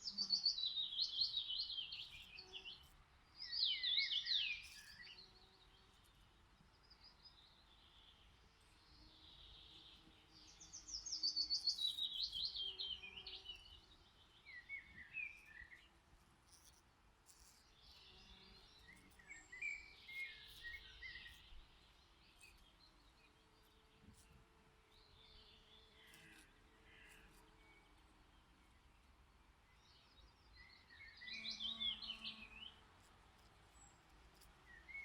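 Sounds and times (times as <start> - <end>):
songbird singing: 0.0 - 16.7, 17.3 - 35.0.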